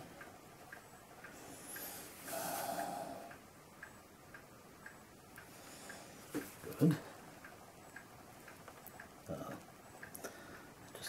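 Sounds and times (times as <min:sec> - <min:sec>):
mechanical clock ticking: 0:00.0 - 0:11.0.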